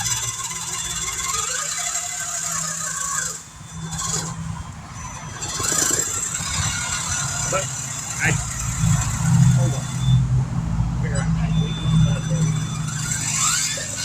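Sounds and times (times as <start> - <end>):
rattling: 0.0 - 14.0
toy truck motor whining: 0.0 - 14.0.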